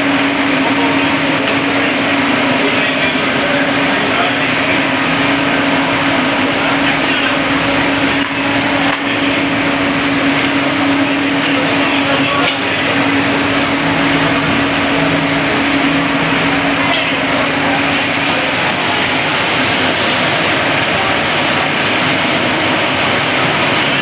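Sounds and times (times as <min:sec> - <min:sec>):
indistinct voices: 0:00.0 - 0:24.0
loud rush of street noise: 0:00.0 - 0:24.0
steady low hum: 0:00.0 - 0:24.0.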